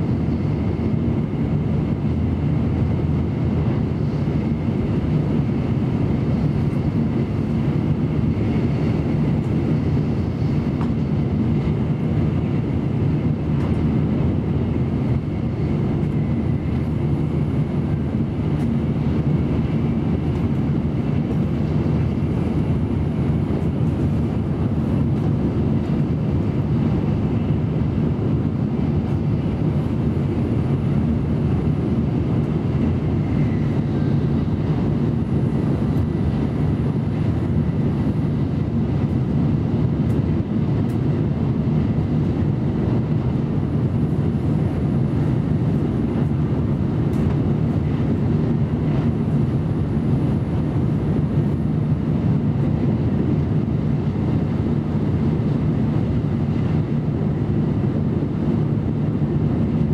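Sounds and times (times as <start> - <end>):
train cabin running noise: 0.0 - 59.2.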